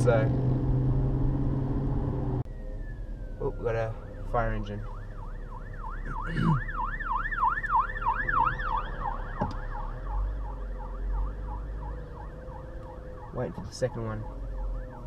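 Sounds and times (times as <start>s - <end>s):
car engine and road hum: 0.0s - 15.0s
fire engine siren yelping: 2.4s - 15.0s.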